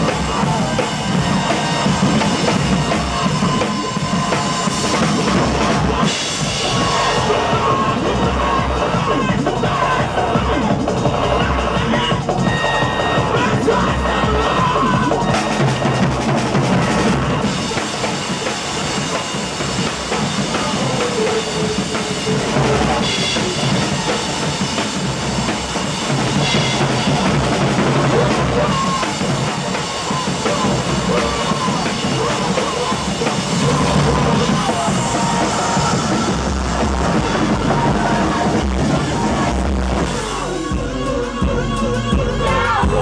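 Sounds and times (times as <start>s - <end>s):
drum kit: 0.0s - 43.0s
live band music: 0.0s - 43.0s.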